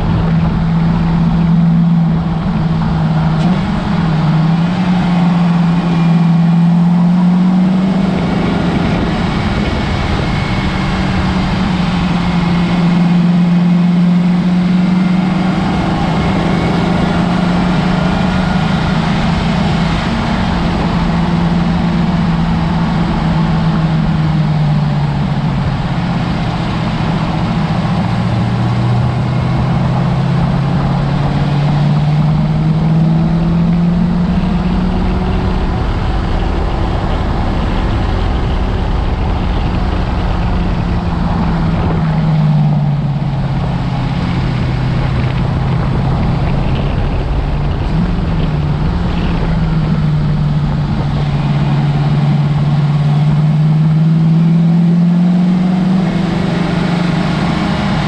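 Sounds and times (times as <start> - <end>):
car engine pulling: 0.0 - 58.0
wind and tyre noise: 0.0 - 58.0.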